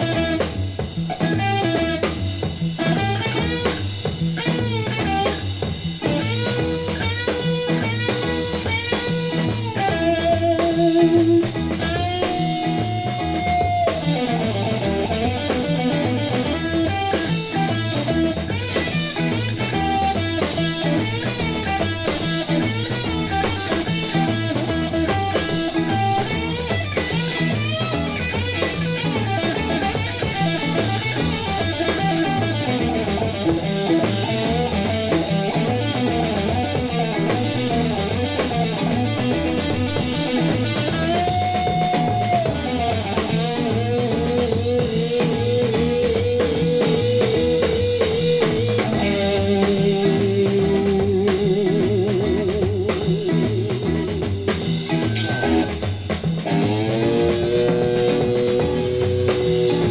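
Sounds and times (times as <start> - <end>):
blues-rock lead guitar: 0.0 - 59.9
drum kit and bass: 0.0 - 59.9.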